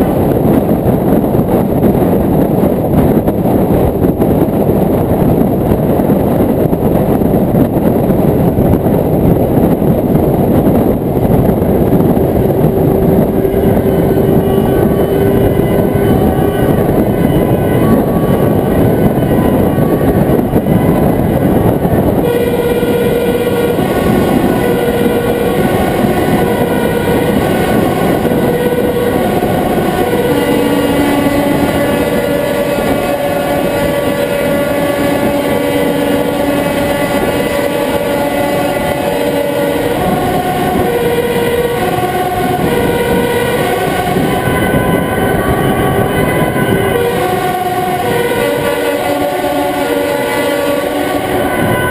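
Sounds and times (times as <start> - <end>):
two-tone emergency sirens: 0.0 - 51.9.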